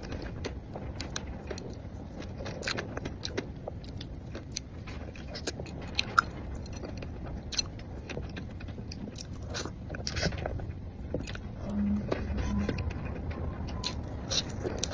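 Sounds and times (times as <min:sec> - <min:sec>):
biting and chewing cake: 0:00.0 - 0:14.9.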